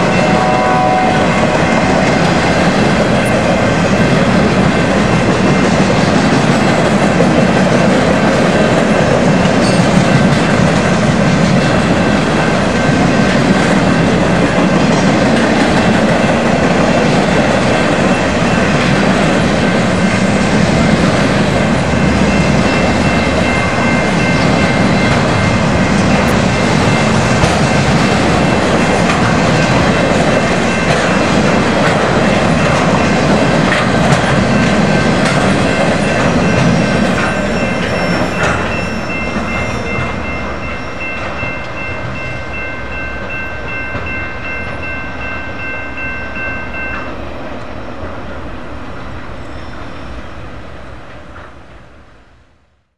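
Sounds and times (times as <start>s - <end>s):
freight train cars clacking on rails: 0.0s - 47.3s.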